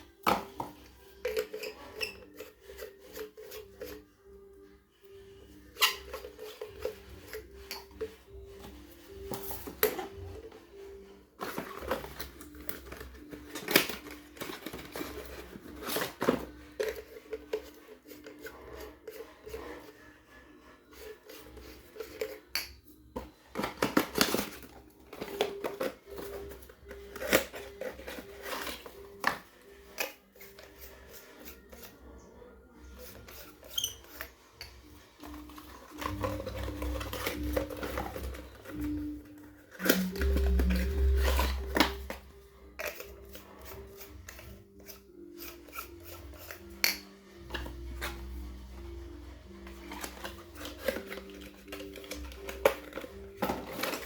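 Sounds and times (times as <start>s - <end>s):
packaging clicks and rustles: 0.0s - 32.1s, 32.7s - 54.0s
faint background music: 0.0s - 54.0s.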